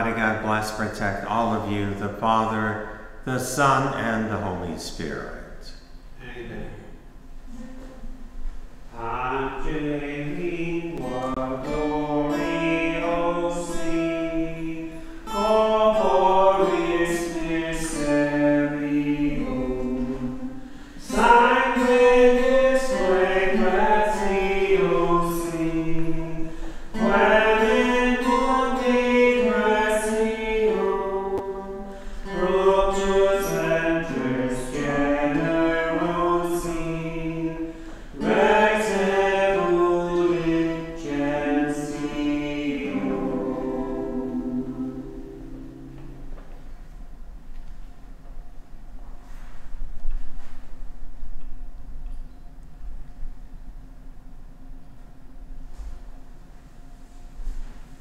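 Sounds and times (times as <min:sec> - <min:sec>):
hymn singing: 0:00.0 - 0:47.0.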